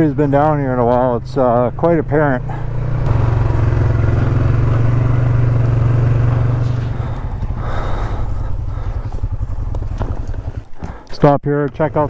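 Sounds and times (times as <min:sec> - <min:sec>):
atv engine running and idling: 0:00.0 - 0:11.1, 0:11.7 - 0:12.0.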